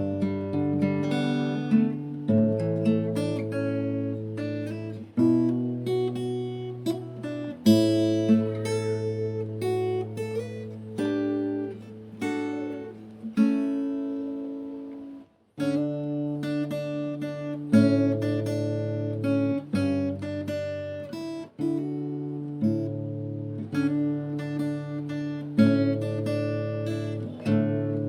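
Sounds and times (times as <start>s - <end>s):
acoustic guitar chords: 0.0s - 28.0s.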